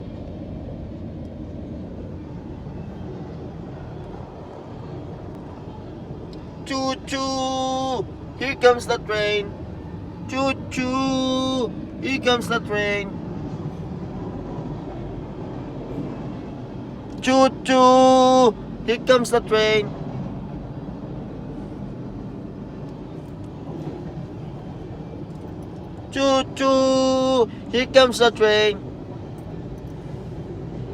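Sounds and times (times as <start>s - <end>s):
low rumble of vehicles: 0.0s - 30.9s.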